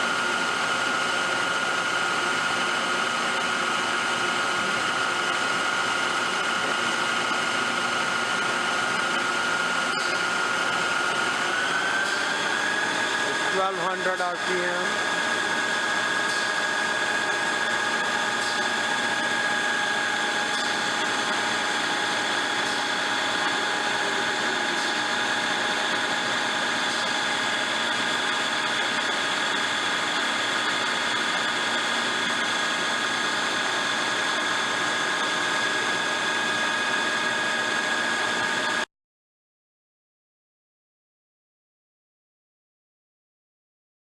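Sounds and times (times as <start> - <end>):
machine spindle hiss and whine: 0.0 - 38.8.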